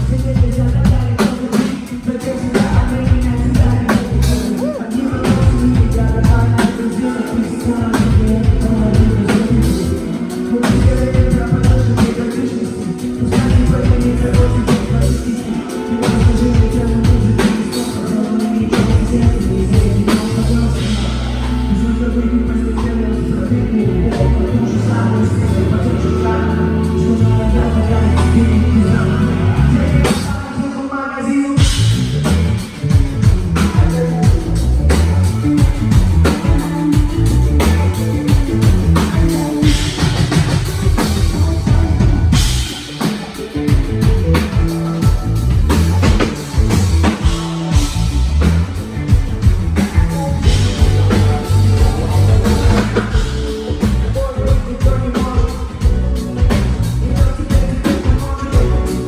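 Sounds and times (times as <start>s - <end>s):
rock band playing: 0.0s - 30.8s, 31.6s - 59.0s.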